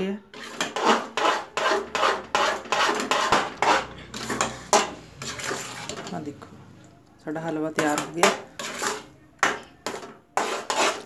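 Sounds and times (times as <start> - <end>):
metal ladle scraping a metal pan: 0.2 - 6.5, 7.4 - 11.0.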